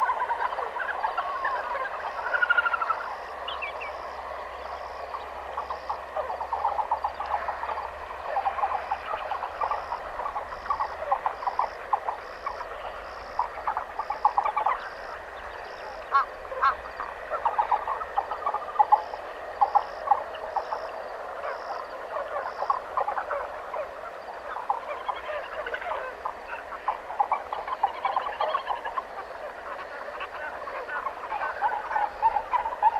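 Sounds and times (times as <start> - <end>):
frogs trilling: 0.0 - 32.9.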